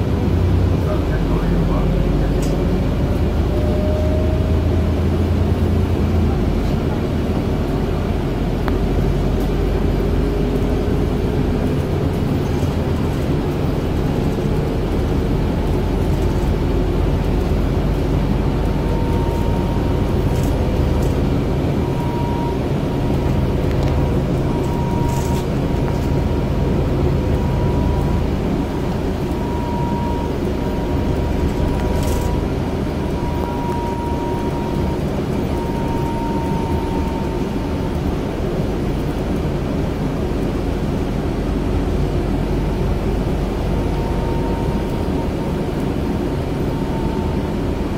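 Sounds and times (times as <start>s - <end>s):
bus engine and road rumble: 0.0s - 47.9s
thin steady whine: 0.0s - 47.9s.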